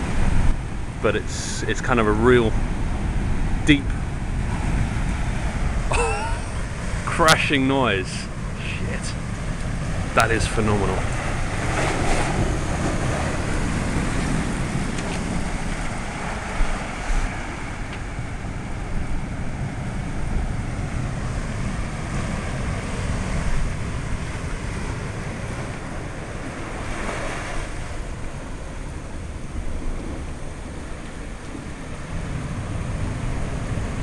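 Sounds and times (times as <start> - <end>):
waves crashing: 0.0 - 34.0
wind buffeting microphone: 0.0 - 34.0.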